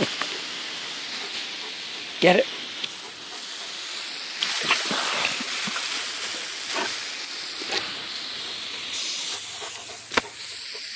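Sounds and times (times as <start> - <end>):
garden hose spraying water: 0.0 - 10.9
water splashing on dog: 0.0 - 10.9.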